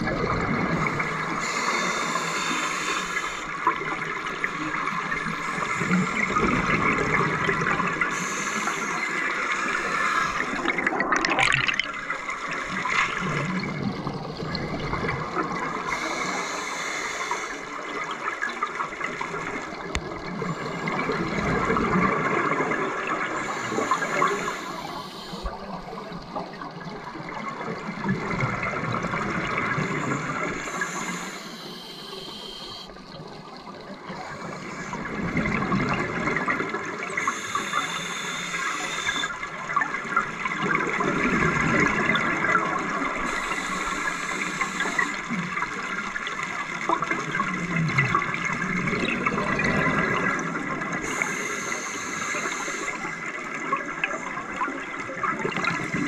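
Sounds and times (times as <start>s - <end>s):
underwater regulator bubbles gurgling: 0.0s - 56.0s.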